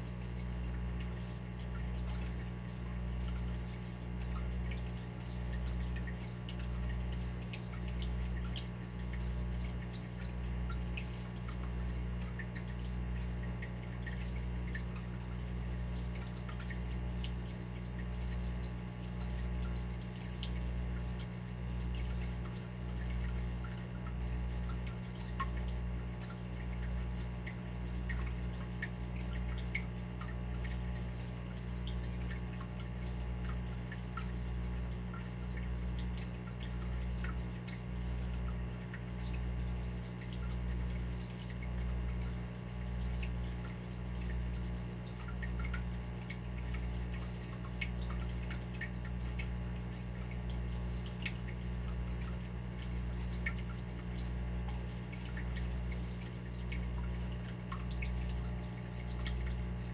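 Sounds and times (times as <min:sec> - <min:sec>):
water dripping: 0:00.1 - 0:59.9.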